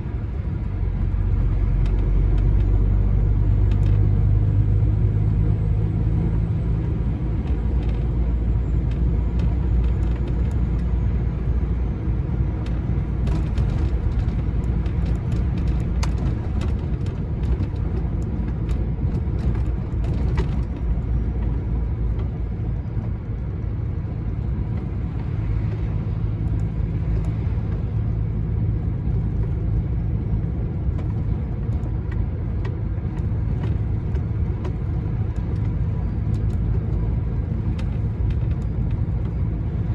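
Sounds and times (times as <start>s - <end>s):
lorry diesel engine rumble: 0.0s - 39.9s.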